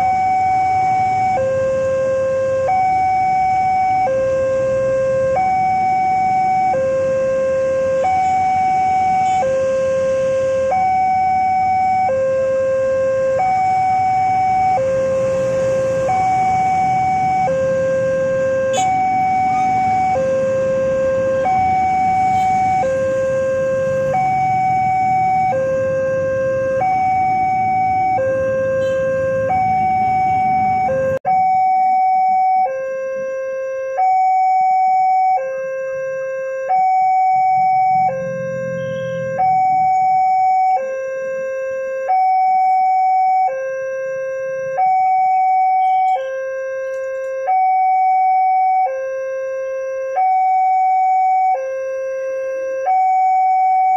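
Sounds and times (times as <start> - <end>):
electronic two-tone alarm: 0.0 - 53.9
low traffic hum: 0.0 - 53.9.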